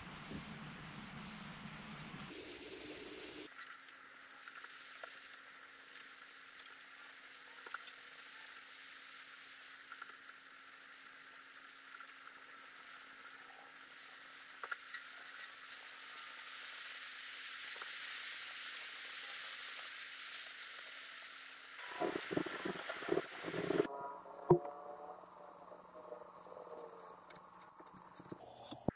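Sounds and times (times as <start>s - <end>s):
faint steady hiss: 0.0s - 24.6s.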